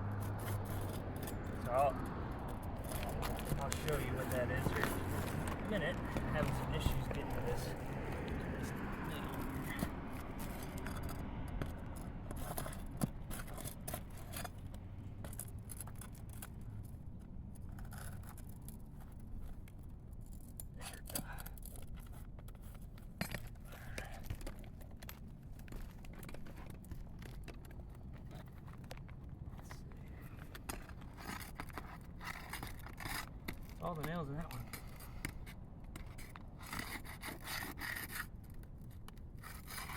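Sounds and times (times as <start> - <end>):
hand tool clicks and scrapes: 0.1 - 39.9.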